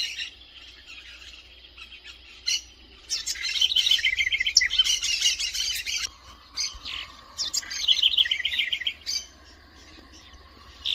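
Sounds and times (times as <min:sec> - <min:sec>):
wren singing: 0:00.0 - 0:10.9.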